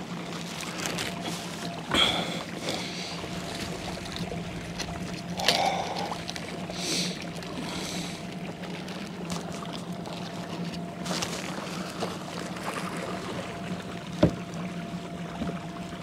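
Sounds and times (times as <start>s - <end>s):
steady low hum: 0.0s - 16.0s
water trickling and lapping: 0.0s - 16.0s.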